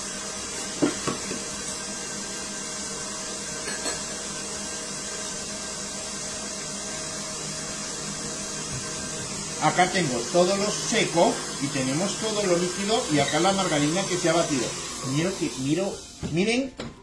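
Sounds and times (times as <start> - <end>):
stand mixer running: 0.0 - 17.0.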